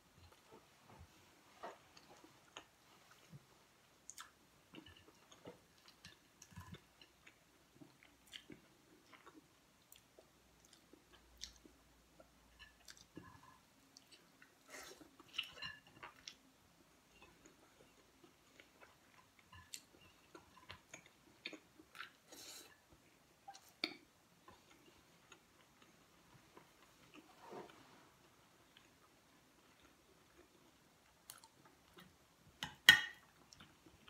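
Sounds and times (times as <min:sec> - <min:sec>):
person chewing food: 0:00.2 - 0:34.0.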